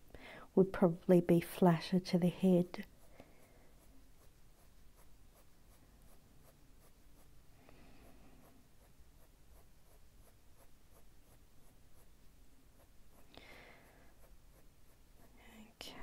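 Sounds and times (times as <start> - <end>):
pencil scratching on paper: 2.3 - 15.4.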